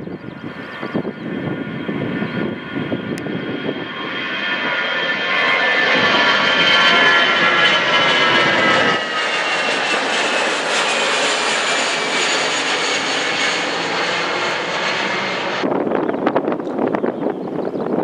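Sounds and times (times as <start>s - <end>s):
jet airliner engines passing: 0.0s - 18.0s.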